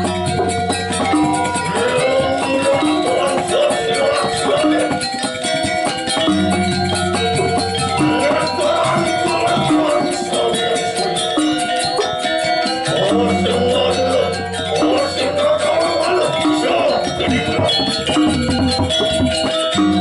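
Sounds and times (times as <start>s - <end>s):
fast cymbal strikes: 0.0s - 20.0s
metallophone ringing tones: 0.0s - 20.0s.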